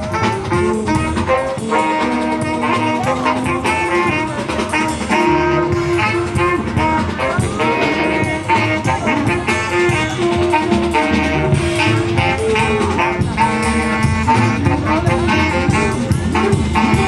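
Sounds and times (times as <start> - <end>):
jazz music with brass: 0.0 - 17.0.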